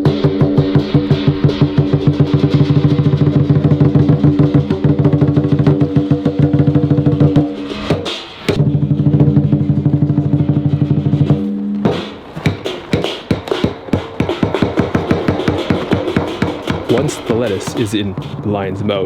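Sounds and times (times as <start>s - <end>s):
cymbal crash: 0.0s - 18.6s
drum beaten in fast roll: 0.0s - 19.0s.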